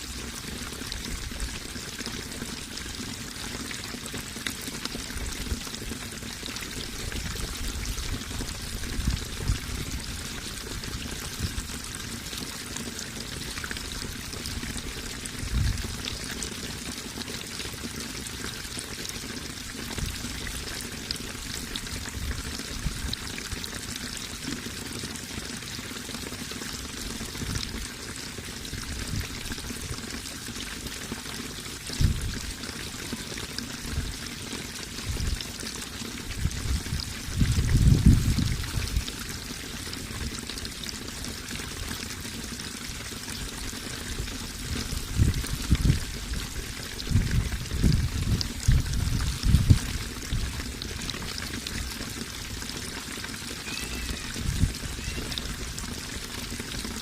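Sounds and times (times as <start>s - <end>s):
running water splashing: 0.0s - 57.0s.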